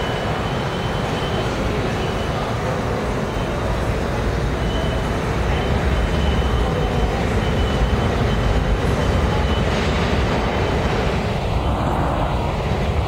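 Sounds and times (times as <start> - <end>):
rumble of wheels on rail: 0.0 - 13.0.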